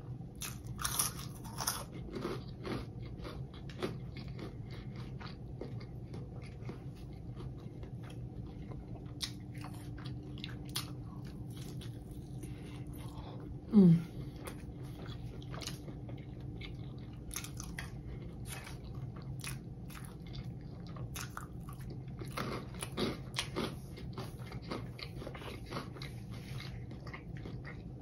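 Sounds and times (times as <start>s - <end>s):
person chewing crunchy food: 0.0s - 28.0s.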